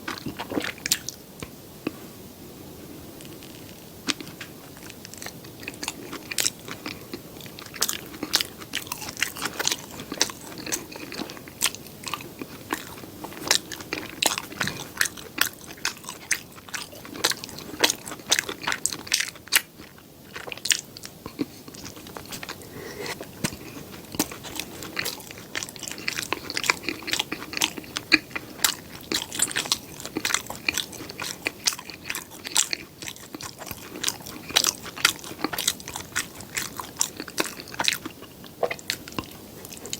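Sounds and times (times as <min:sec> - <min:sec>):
crunchy bites and chewing: 0:03.2 - 0:39.9.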